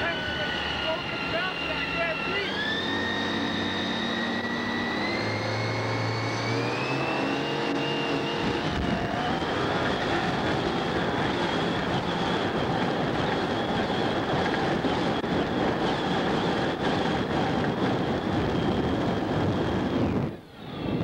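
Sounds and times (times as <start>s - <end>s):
boat engine running hard: 0.0s - 21.0s
wind rush: 0.0s - 21.0s.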